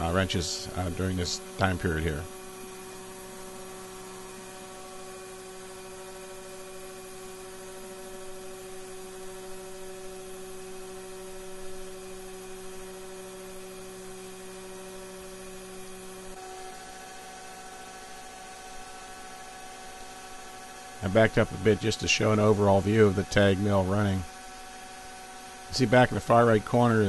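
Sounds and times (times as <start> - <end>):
milling machine humming and whining: 0.0 - 27.0.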